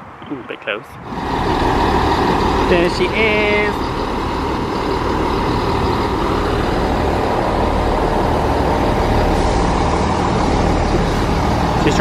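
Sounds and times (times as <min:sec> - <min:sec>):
train engine hum: 0:01.0 - 0:12.0
carriages rumbling on track: 0:01.1 - 0:12.0.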